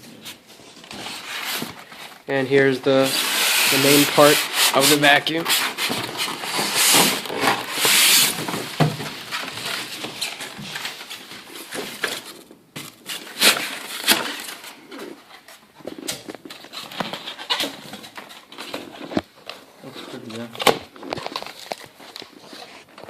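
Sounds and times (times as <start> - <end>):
packaging rustling and scraping: 0.0 - 23.0.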